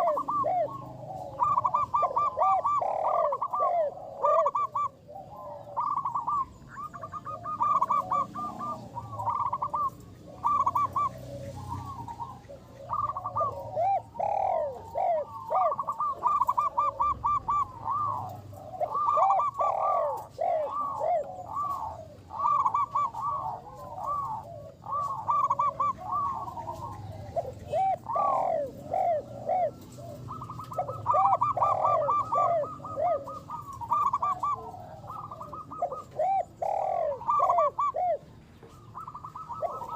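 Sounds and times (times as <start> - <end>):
doves cooing and trilling: 0.0 - 39.9.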